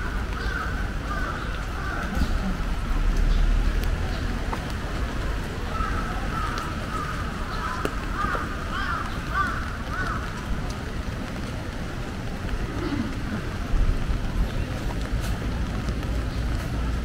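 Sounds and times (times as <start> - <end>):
low street noise: 0.0 - 17.0.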